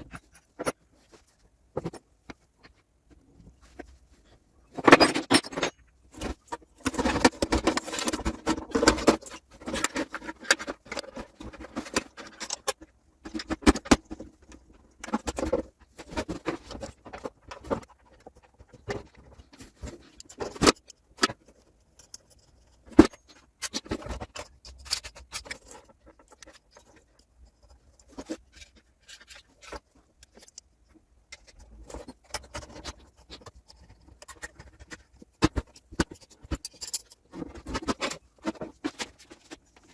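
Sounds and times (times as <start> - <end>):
metal parts and tools clinking: 4.7 - 39.9.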